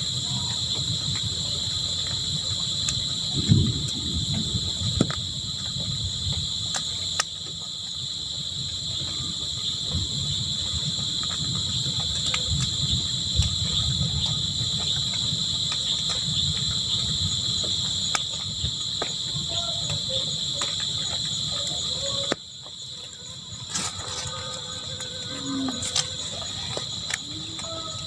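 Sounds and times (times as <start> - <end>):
crickets chirping: 0.0 - 28.0
low uneven rumble: 0.0 - 28.0.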